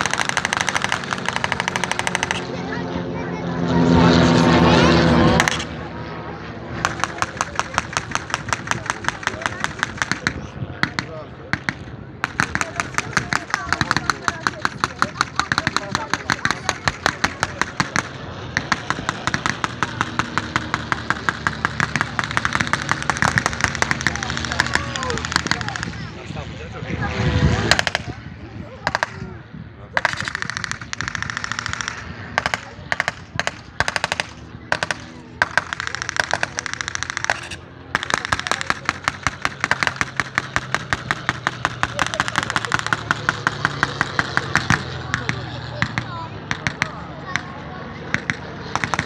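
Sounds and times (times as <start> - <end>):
machine-gun fire: 0.0 - 2.5, 5.4 - 5.7, 6.8 - 26.0, 27.7 - 28.2, 28.8 - 29.2, 30.0 - 47.5, 48.1 - 49.0
rapid even clatter of pops: 0.0 - 2.5, 6.8 - 26.0, 30.0 - 47.5, 48.1 - 49.0
propeller aircraft engine drone: 0.0 - 49.0.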